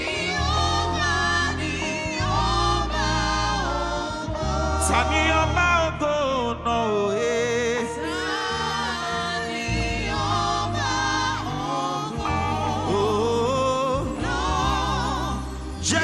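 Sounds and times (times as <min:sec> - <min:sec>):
sustained bass notes: 0:00.0 - 0:16.0
voices singing praise song: 0:00.0 - 0:16.0.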